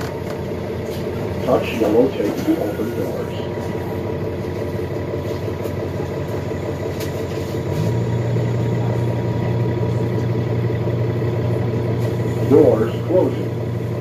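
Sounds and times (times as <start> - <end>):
bus engine hum: 0.0 - 14.0.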